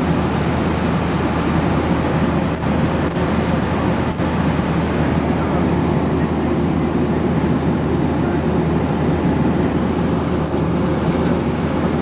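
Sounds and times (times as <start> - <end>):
airliner cabin engine and air noise: 0.0 - 12.0.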